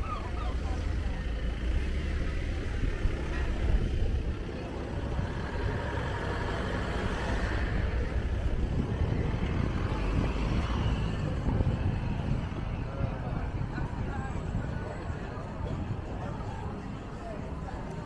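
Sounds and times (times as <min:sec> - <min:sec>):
cars driving slowly past: 0:00.0 - 0:18.0
street noise rumble: 0:00.0 - 0:18.0.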